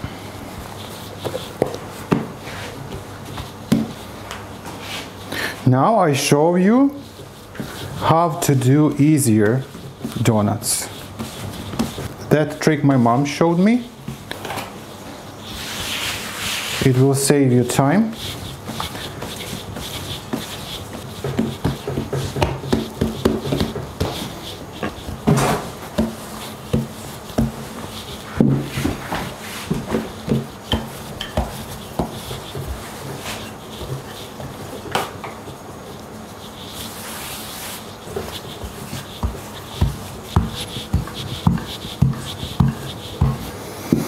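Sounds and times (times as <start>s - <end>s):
hands kneading dough: 0.0s - 44.0s.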